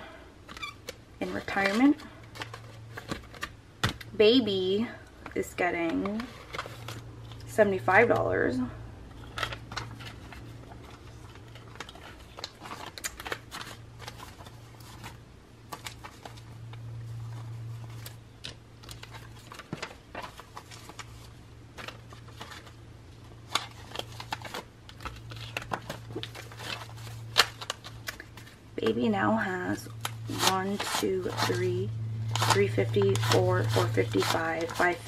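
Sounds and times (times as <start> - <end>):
banknotes rustling and crinkling: 0.0 - 35.0
steady low hum: 0.0 - 35.0.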